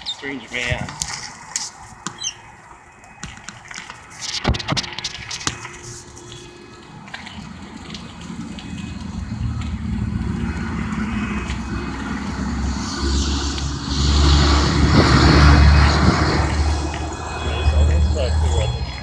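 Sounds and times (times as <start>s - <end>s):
road noise: 0.0s - 19.0s
vehicle engine rumble: 0.0s - 19.0s.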